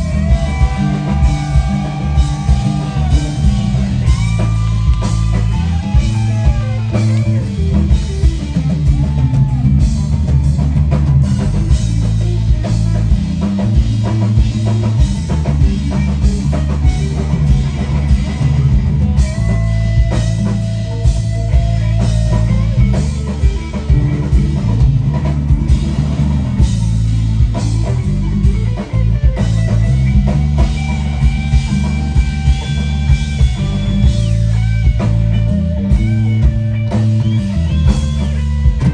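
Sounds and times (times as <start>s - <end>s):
electric guitar lead notes: 0.0s - 38.9s
live rock band playing: 0.0s - 38.9s.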